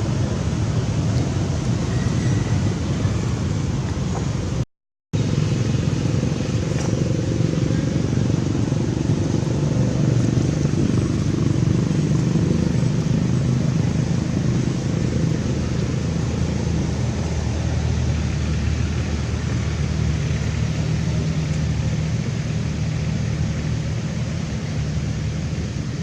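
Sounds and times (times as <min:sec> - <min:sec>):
low rumble of motor traffic: 0:00.0 - 0:04.6, 0:05.2 - 0:26.0.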